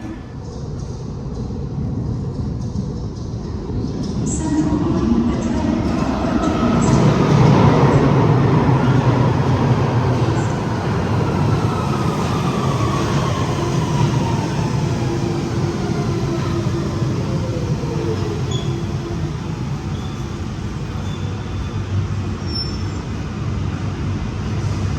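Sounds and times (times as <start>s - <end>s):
train rumble: 0.0s - 24.9s.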